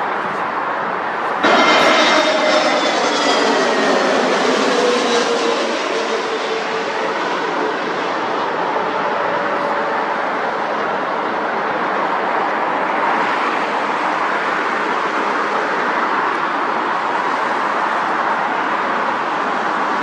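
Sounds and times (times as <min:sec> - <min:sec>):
distant jet engines rushing: 0:00.0 - 0:20.0.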